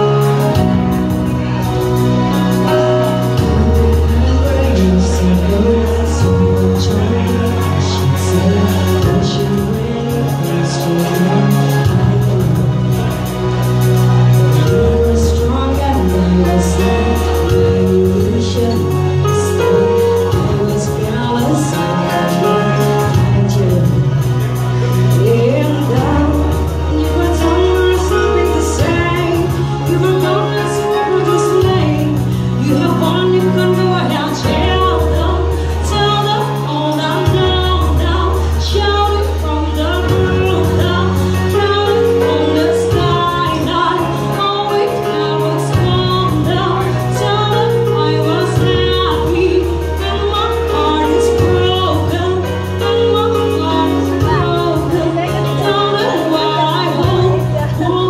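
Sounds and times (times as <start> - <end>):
bass line: 0.0 - 58.0
keyboard accompaniment: 0.0 - 58.0
woman singing into microphone: 0.0 - 58.0.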